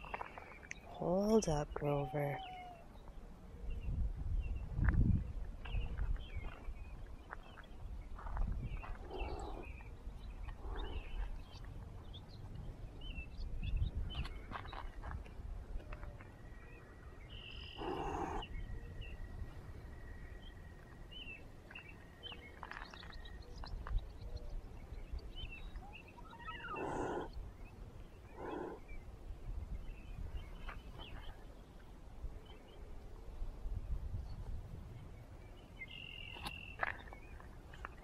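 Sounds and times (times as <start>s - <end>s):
birds chirping faintly: 0.0s - 38.0s.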